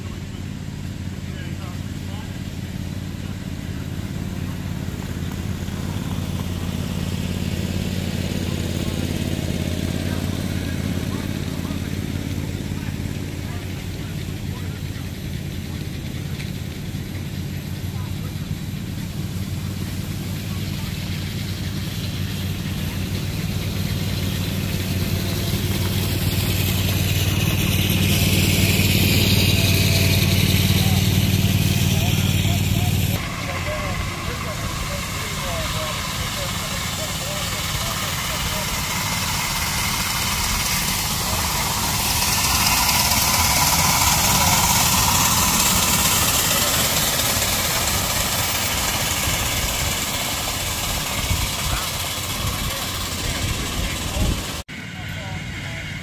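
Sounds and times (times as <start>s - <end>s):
locomotive hiss: 0.0s - 56.0s
miniature locomotive engine hum: 0.0s - 56.0s.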